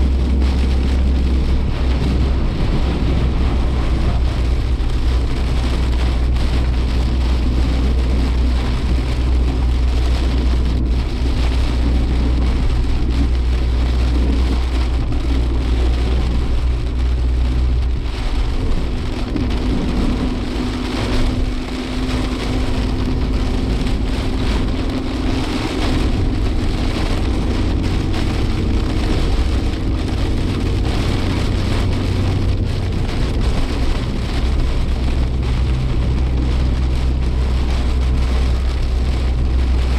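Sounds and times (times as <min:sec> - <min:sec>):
engine and tyres drone: 0:00.0 - 0:39.9
heavy rain and road spray: 0:00.0 - 0:39.9.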